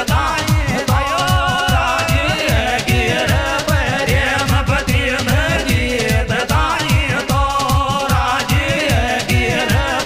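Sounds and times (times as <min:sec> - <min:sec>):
person singing: 0:00.0 - 0:10.0.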